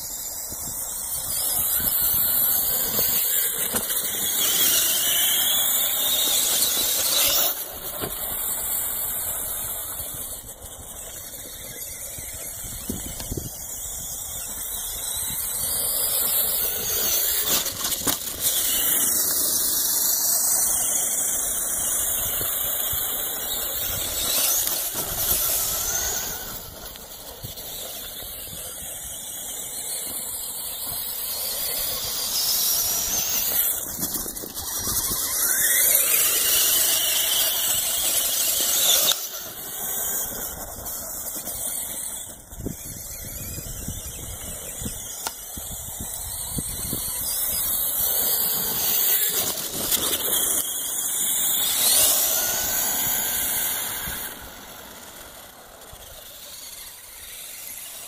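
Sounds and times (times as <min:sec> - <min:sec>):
toy truck electric motor whine: 0:00.0 - 0:58.0.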